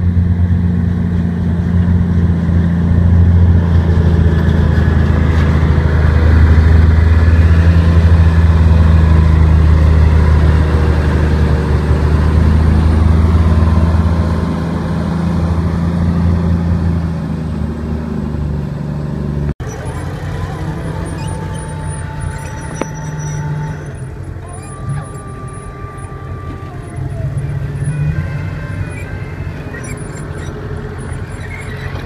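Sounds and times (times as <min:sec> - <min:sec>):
heavy vehicle engine humming: 0:00.0 - 0:32.0.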